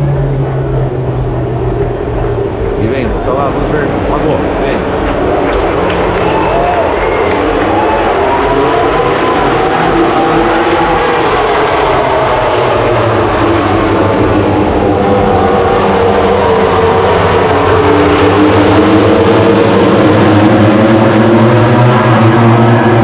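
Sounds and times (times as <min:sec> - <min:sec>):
racing motorcycles at full throttle: 0:00.0 - 0:23.0.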